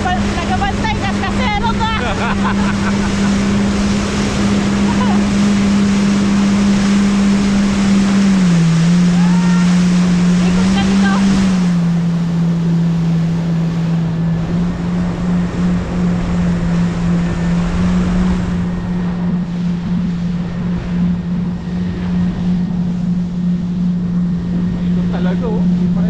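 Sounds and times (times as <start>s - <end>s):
jet ski engine running: 0.0s - 26.0s
rushing water: 0.0s - 26.0s.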